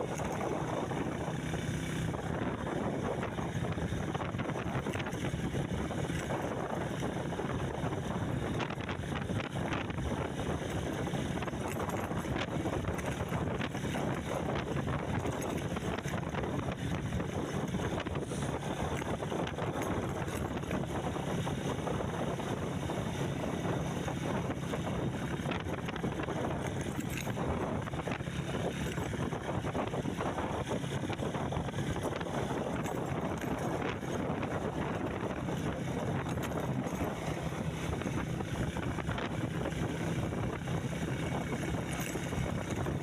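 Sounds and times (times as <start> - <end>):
vehicle engine droning: 0.0 - 43.0
wind buffeting microphone: 0.0 - 43.0.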